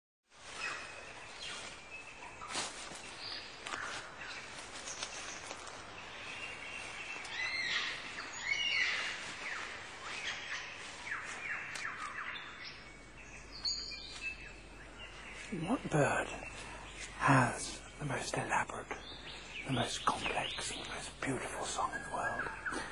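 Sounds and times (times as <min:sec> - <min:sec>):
birds chirping and whistling: 0:00.5 - 0:22.9.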